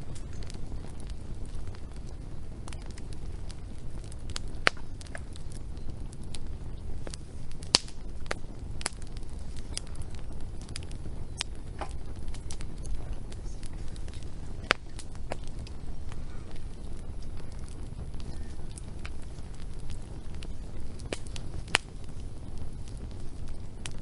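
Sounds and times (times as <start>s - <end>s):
steady low rumble: 0.0s - 24.0s
wood fire crackling and popping: 0.0s - 24.0s.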